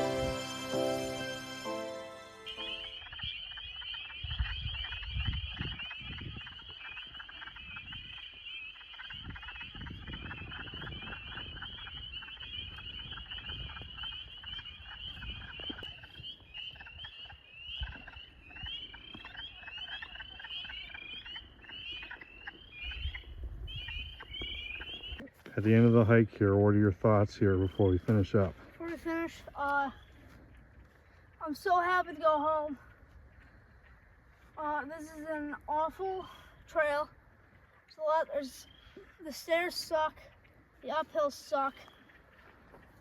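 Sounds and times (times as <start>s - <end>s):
spring peepers peeping: 0.0s - 43.0s.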